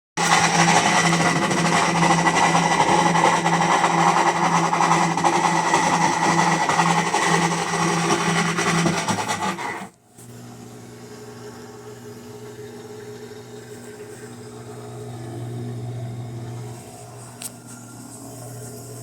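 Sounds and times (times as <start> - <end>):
washing machine harsh mechanical noise: 0.2 - 19.0.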